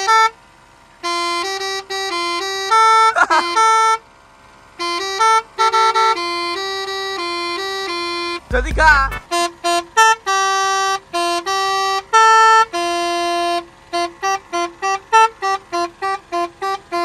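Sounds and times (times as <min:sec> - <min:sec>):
truck air horn playing melody: 0:00.0 - 0:00.3, 0:01.0 - 0:04.1, 0:04.7 - 0:17.0.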